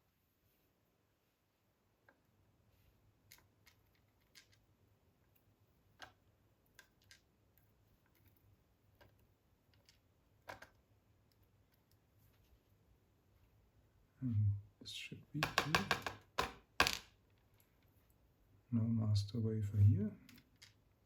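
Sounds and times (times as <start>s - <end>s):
faint low hum: 0.0s - 16.0s, 17.2s - 21.0s.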